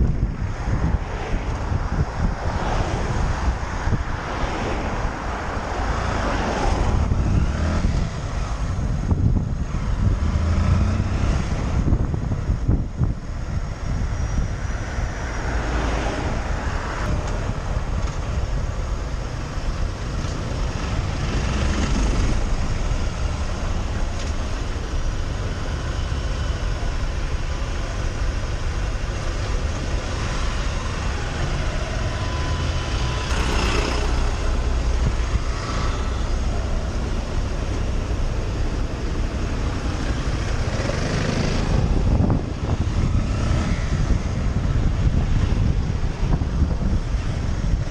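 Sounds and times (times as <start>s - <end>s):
vehicles passing: 0.0s - 47.9s
wind rushing on microphone: 0.0s - 47.9s
motorcycle engine rumble: 6.8s - 14.7s, 16.4s - 47.9s.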